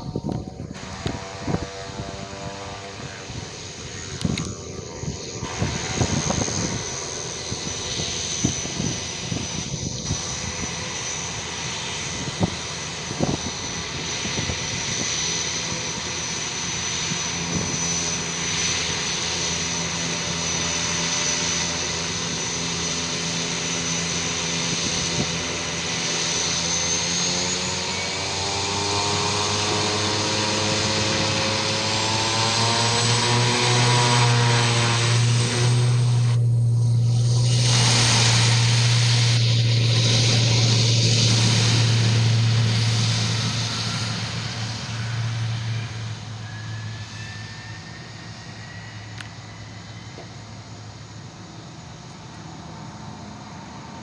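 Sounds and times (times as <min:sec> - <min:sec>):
turboprop engines whining: 0:00.0 - 0:54.0.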